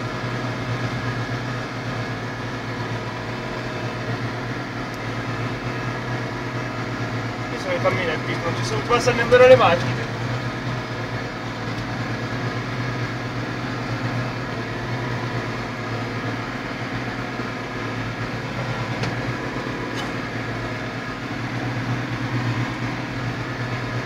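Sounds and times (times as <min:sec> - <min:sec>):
tractor diesel engine droning: 0:00.0 - 0:24.0.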